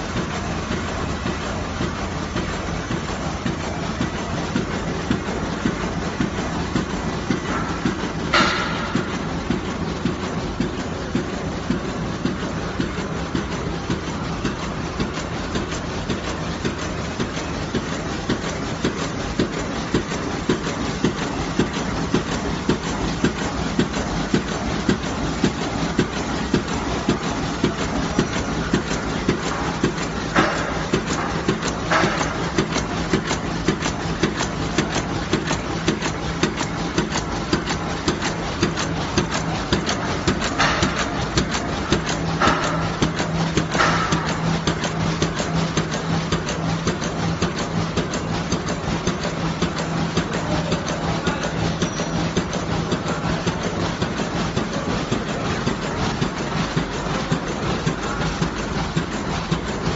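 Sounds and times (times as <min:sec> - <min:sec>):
air cushion machine whirring: 0:00.0 - 0:59.9
regular mechanical clicking: 0:00.0 - 0:59.9.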